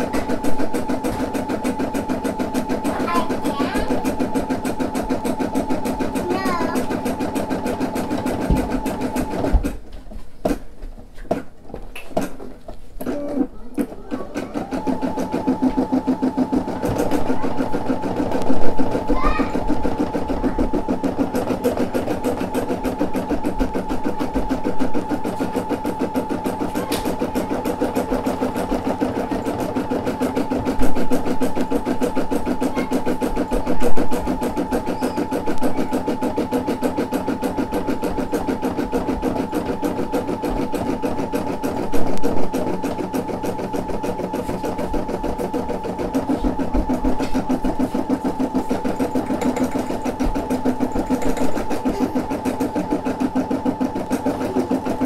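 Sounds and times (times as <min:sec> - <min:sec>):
embroidery machine stitching: 0:00.0 - 0:10.7, 0:11.3 - 0:55.0.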